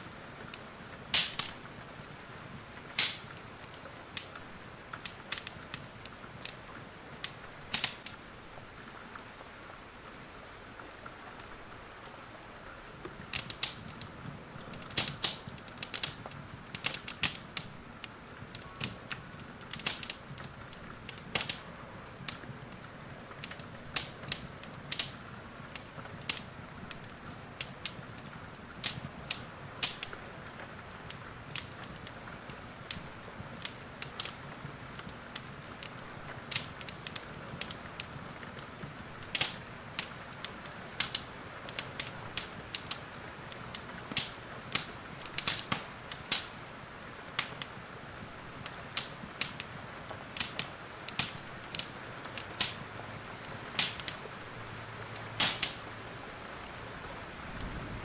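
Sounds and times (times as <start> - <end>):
rain hissing: 0.0 - 58.0
wood fire crackling: 0.0 - 58.0.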